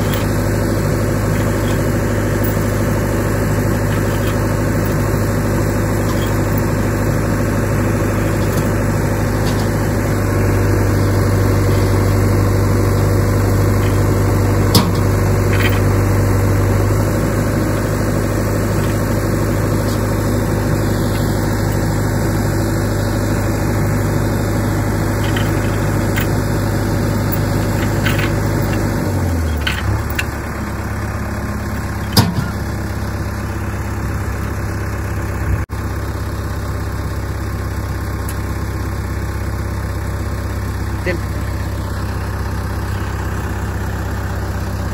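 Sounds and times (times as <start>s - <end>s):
diesel engines idling: 0.0s - 44.9s.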